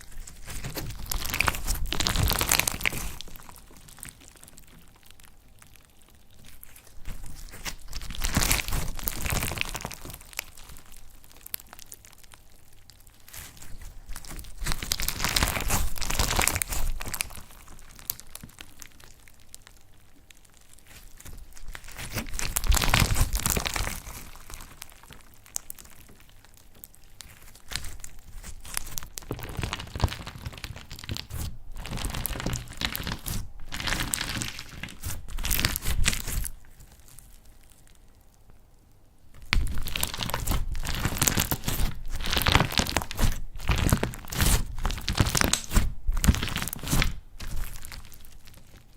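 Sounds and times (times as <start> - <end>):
slime crackling and squelching: 0.0 - 48.9.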